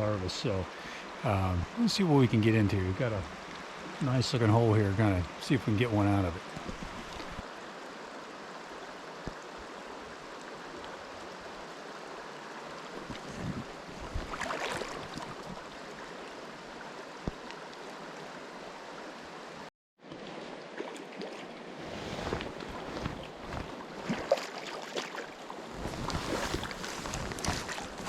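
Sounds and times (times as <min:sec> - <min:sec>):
stream running over riffles: 0:00.0 - 0:28.0.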